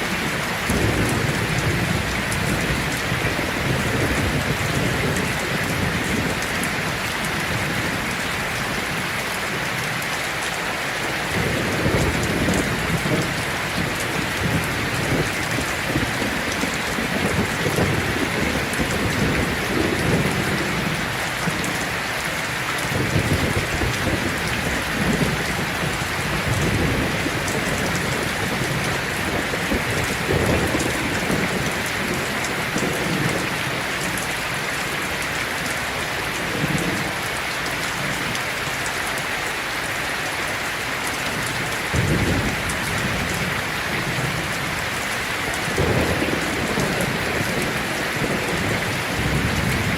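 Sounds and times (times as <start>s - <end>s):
heavy rain on a tin roof: 0.0s - 49.9s
low thunder rumbling: 0.1s - 9.7s, 11.1s - 22.0s, 22.8s - 34.9s, 41.4s - 49.9s.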